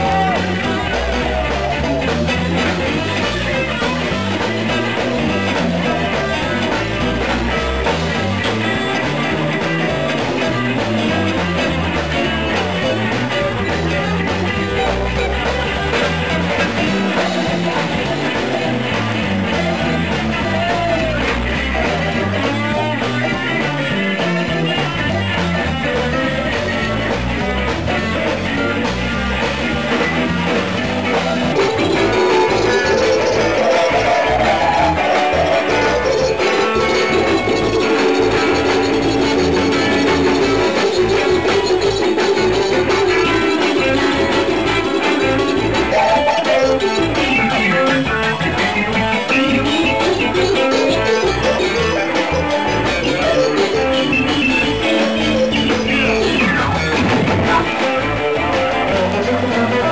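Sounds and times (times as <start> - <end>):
electric guitars: 0.0 - 59.9
repeating bass line: 0.0 - 59.9.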